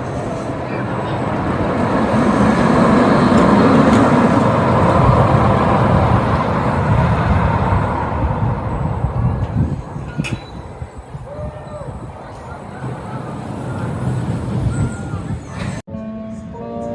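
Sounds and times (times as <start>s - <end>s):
roller coaster train rumbling: 0.0s - 15.9s.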